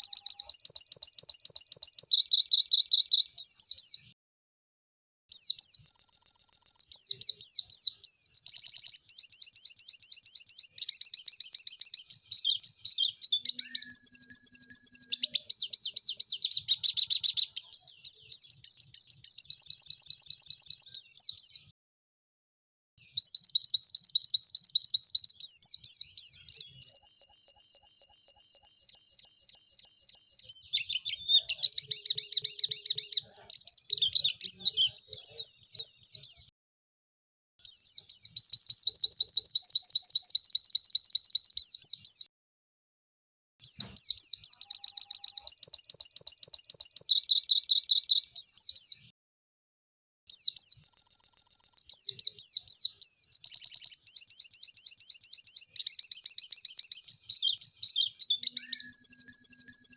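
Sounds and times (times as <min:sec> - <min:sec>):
bird singing rapid high chirps: 0:00.0 - 0:04.2, 0:05.3 - 0:21.7, 0:23.0 - 0:36.5, 0:37.6 - 0:42.3, 0:43.6 - 0:49.1, 0:50.3 - 0:59.9.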